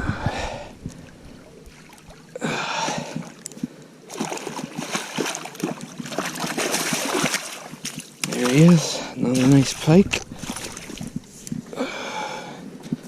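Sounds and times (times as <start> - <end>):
fish thrashing and water splashing: 0.9 - 11.5.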